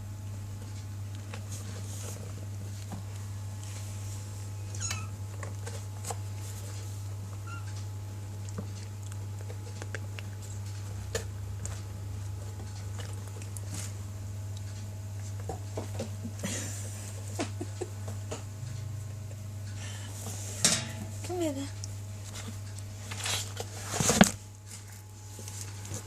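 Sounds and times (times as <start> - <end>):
steady low hum: 0.0 - 26.0
kittens' paws tapping and scuffling: 0.6 - 7.7, 8.3 - 18.5, 20.2 - 26.0.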